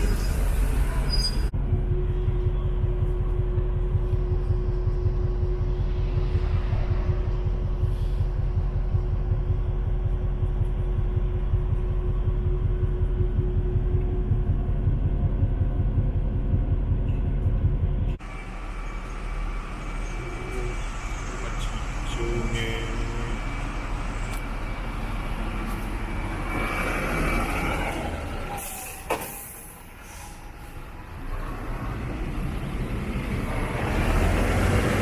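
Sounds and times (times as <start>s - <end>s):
quiet drone: 0.0s - 28.0s
heavy engine rumble: 0.0s - 35.0s.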